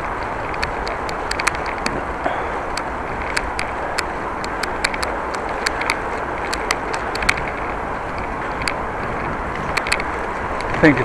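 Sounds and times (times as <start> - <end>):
sharp clicks: 0.0 - 2.0, 2.6 - 11.0
rushing noise of bicycle ride: 0.0 - 11.0.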